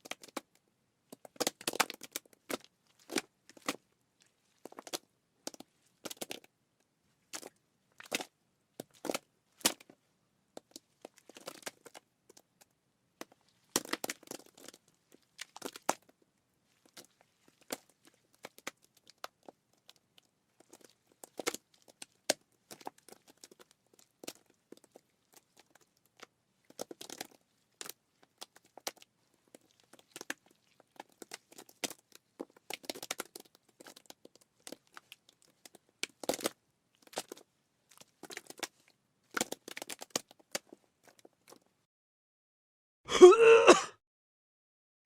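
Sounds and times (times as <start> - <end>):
wet crackling and squelching: 0.0 - 6.5, 7.2 - 10.0, 10.6 - 41.8.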